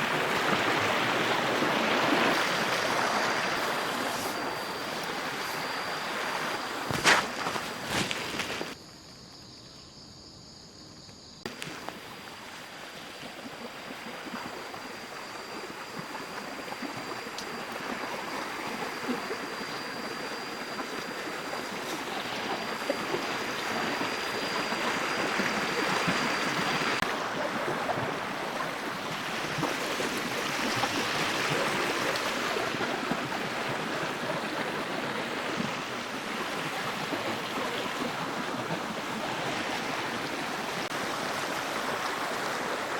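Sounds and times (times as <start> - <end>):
stream water rushing and splashing: 0.0 - 8.8, 11.5 - 42.9.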